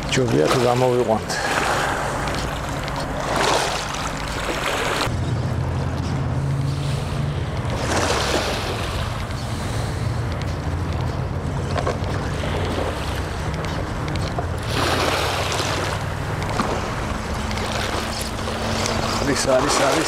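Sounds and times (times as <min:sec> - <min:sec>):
sea waves breaking on shore: 0:00.0 - 0:05.2, 0:06.4 - 0:20.0.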